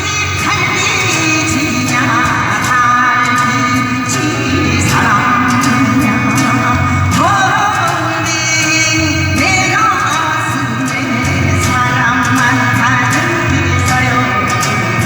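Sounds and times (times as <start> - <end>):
backing music with steady beat: 0.0 - 15.0
person singing folk song: 0.0 - 15.0.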